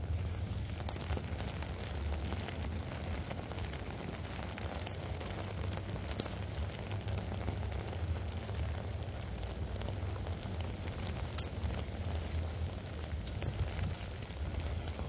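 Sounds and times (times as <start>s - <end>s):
low steady rumble: 0.0s - 15.0s
rain pattering on an umbrella: 0.0s - 15.0s.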